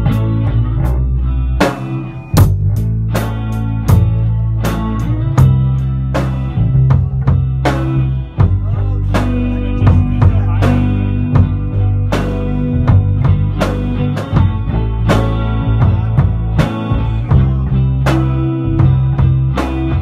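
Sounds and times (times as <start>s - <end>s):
rock song with drums: 0.0s - 20.0s.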